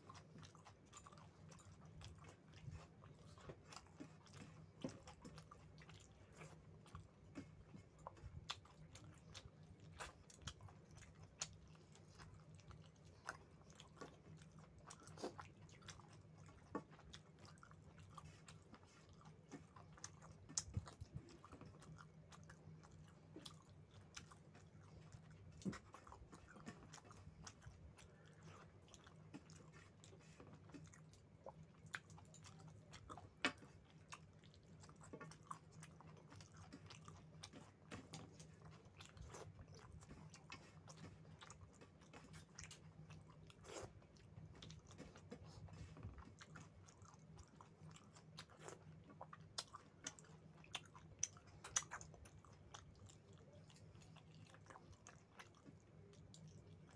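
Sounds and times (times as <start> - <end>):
faint low hum: 0.0 - 56.9
person chewing food: 0.0 - 56.9.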